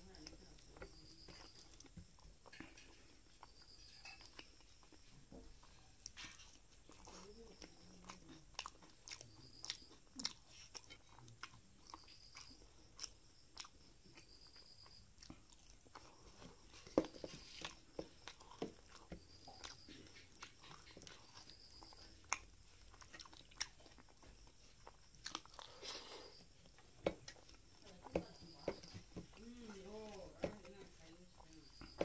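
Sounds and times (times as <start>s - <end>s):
chewing: 0.0s - 32.0s.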